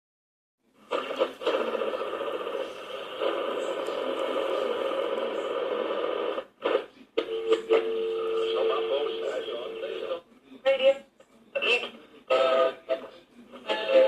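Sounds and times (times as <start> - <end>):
radio static and garbled stations: 0.9 - 14.0.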